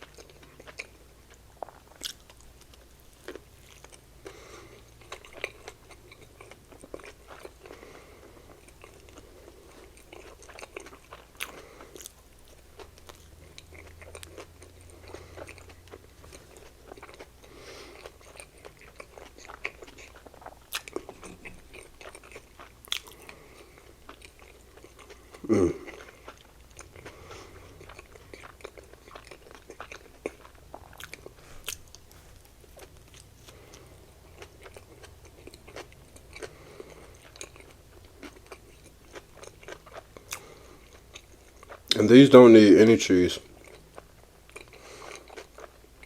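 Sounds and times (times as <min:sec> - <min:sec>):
chewing with mouth smacking: 0:00.0 - 0:42.5, 0:43.4 - 0:46.0.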